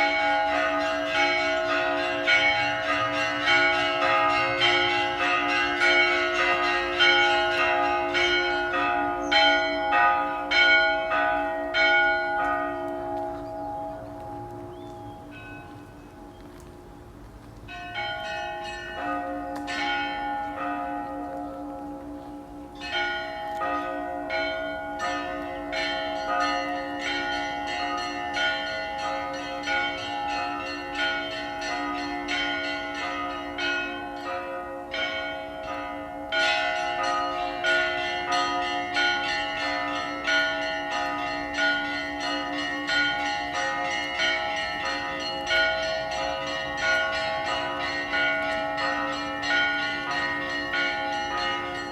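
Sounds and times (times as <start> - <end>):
church bells ringing: 0.0 - 17.0, 17.6 - 51.9.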